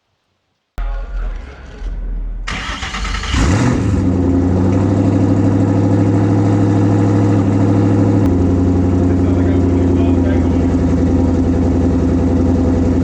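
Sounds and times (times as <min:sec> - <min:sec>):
car engine starting and idling: 0:00.8 - 0:13.0.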